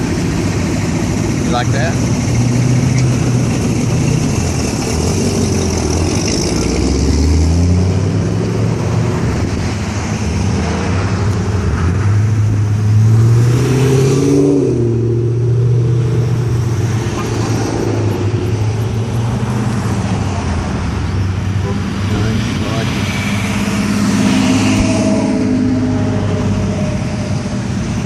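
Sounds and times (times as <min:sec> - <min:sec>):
car engine revving: 0:00.0 - 0:28.0
car engines passing: 0:00.0 - 0:28.0.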